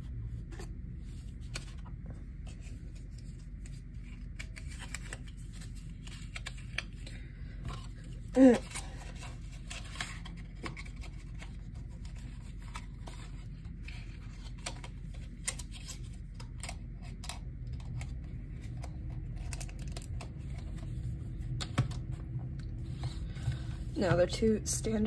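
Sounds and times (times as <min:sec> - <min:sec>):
low hum: 0:00.0 - 0:25.0
hands handling packaging: 0:01.2 - 0:24.0.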